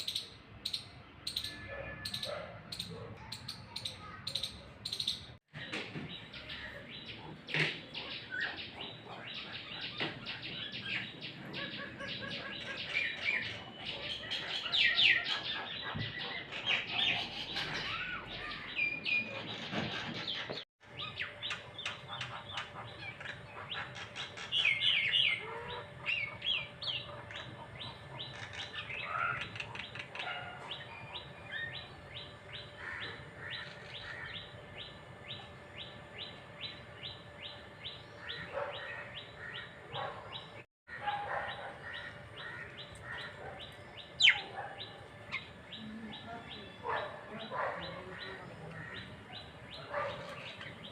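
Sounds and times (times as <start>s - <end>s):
many birds chirping: 0.0s - 50.9s.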